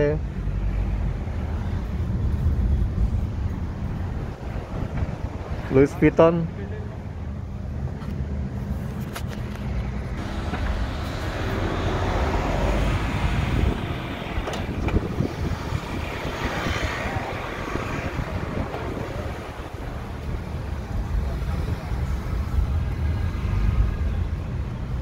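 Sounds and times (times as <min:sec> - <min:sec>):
car road and engine rumble: 0:00.0 - 0:25.0
street traffic: 0:00.0 - 0:25.0.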